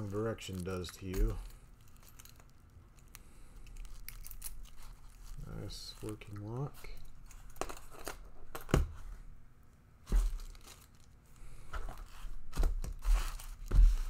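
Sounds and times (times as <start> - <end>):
packaging rustling and crinkling: 0.0 - 8.7, 10.0 - 14.0.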